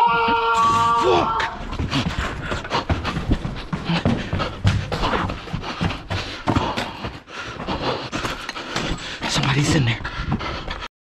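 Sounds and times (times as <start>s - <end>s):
hurried footsteps on debris: 0.6s - 10.9s
person panting: 1.5s - 10.9s.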